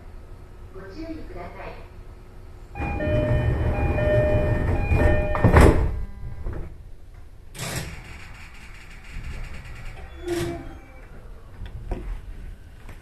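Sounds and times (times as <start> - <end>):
train low rumble: 0.0 - 7.5, 8.1 - 13.0.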